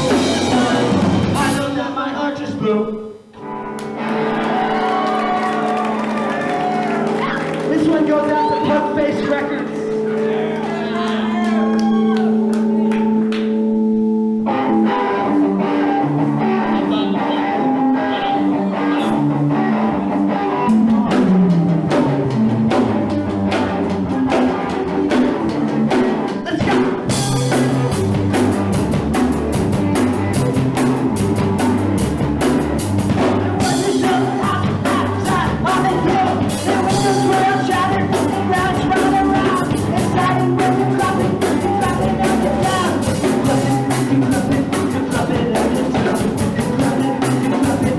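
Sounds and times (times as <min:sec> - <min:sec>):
drums: 0:00.0 - 0:47.9
electric guitar and bass riff: 0:00.0 - 0:47.9.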